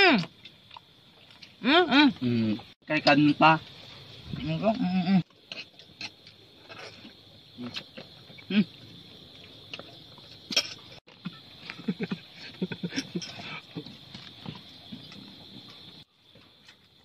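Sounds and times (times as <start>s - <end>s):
night insects chirring: 0.0s - 17.0s
people chewing and smacking: 0.0s - 17.0s.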